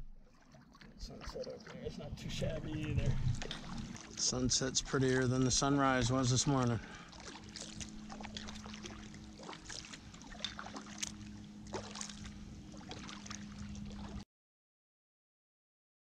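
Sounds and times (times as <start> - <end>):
low steady hum: 0.0 - 14.2
paddle drips and splashes: 0.0 - 14.2.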